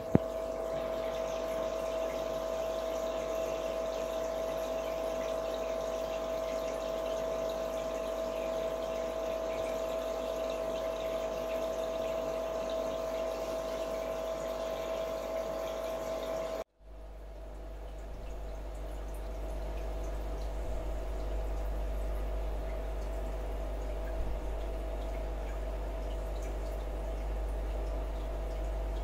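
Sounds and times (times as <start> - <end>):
aquarium pump humming: 0.0 - 29.0.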